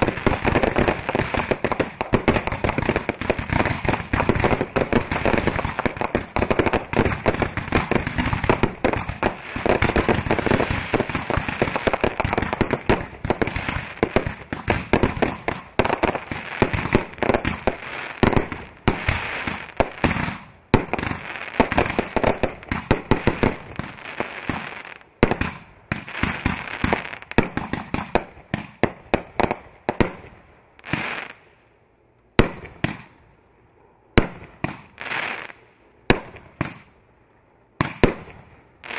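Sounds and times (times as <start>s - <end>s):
fireworks bangs: 0.0s - 31.4s.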